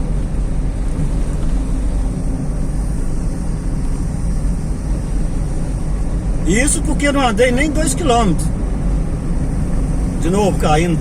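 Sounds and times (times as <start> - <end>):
car interior road noise: 0.0 - 11.0.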